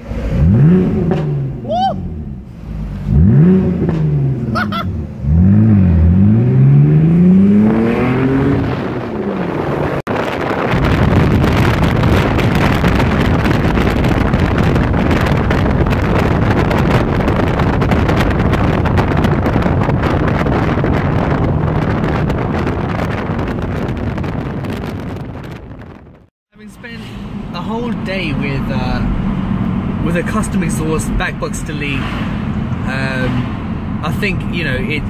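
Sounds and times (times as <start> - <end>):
car engine revving: 0.0 - 26.0, 27.1 - 35.0
wind and road noise: 0.0 - 35.0.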